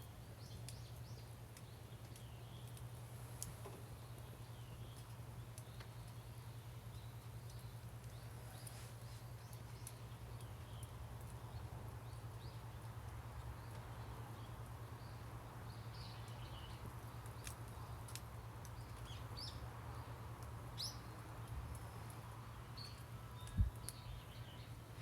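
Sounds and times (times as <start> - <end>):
fire crackling and popping: 0.0 - 25.0
small birds chirping: 0.0 - 25.0.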